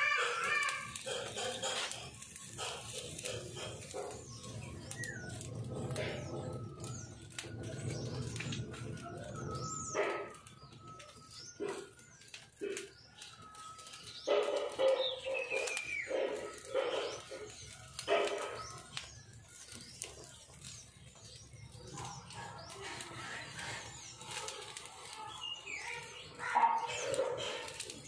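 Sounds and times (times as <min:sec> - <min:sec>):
faint high chirping: 0:00.0 - 0:28.0.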